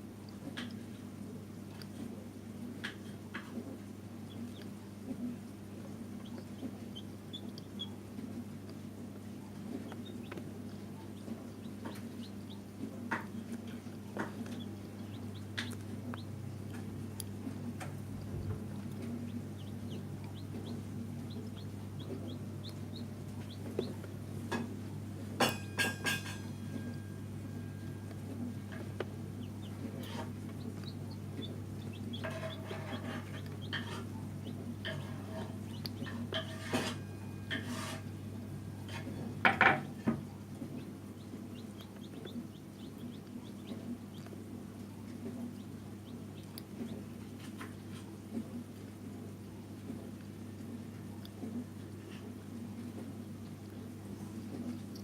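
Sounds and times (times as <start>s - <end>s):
incubator fan humming: 0.0s - 55.0s
chicks peeping: 0.2s - 55.0s.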